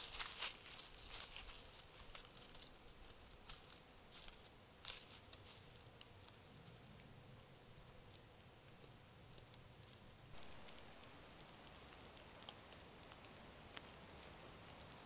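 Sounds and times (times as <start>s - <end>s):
hooves rustling dry leaves: 0.0s - 15.0s.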